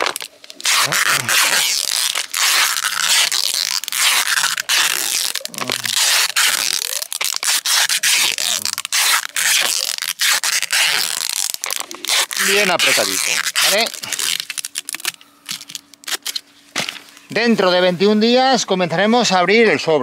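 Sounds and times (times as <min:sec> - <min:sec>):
packing tape tearing off roll: 0:00.0 - 0:17.5
paper envelope crinkling: 0:00.0 - 0:17.7.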